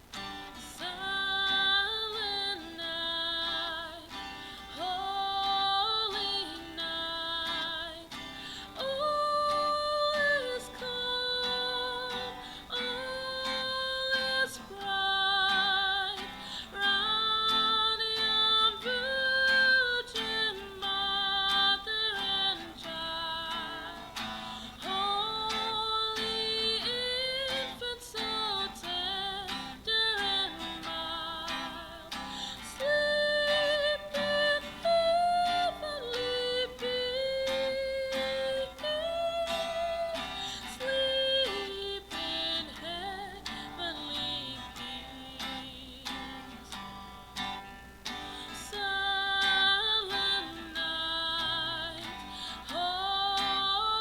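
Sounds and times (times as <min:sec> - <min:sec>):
person singing with vibrato: 0:00.0 - 0:54.0.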